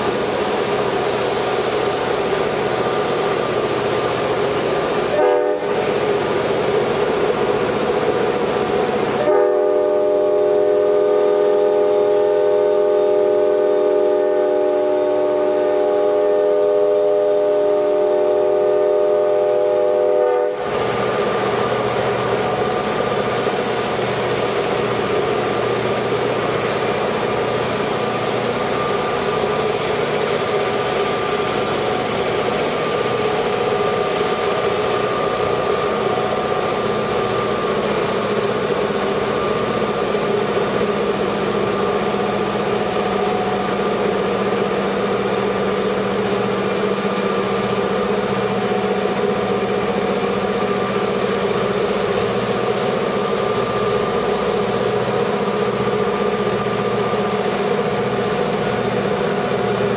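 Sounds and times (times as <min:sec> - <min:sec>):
diesel locomotive engines working hard: 0:00.0 - 0:59.9.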